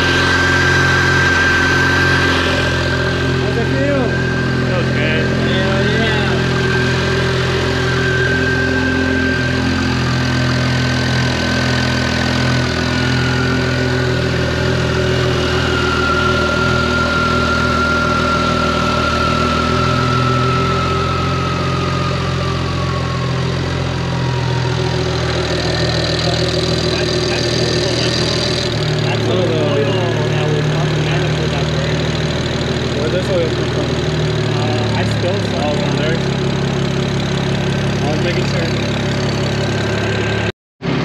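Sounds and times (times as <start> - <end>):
car engine idling: 0.0 - 41.0
high turbo whistle: 0.0 - 41.0.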